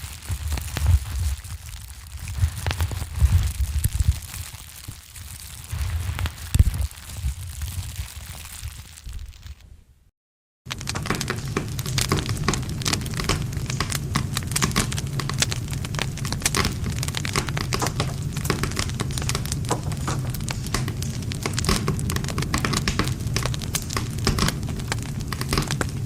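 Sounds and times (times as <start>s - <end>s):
campfire crackling and popping: 0.0s - 9.7s, 10.7s - 26.0s
low rumble of flames: 0.0s - 10.0s, 10.7s - 26.0s.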